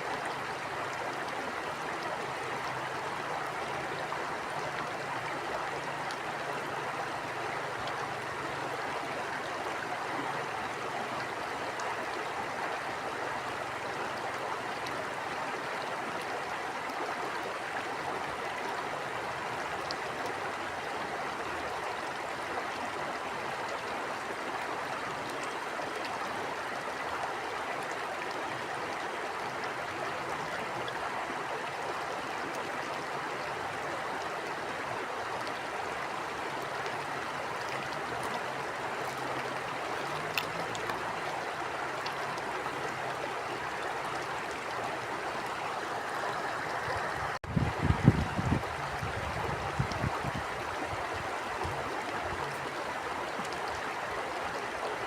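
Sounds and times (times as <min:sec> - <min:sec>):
water flowing over rocks: 0:00.0 - 0:55.0.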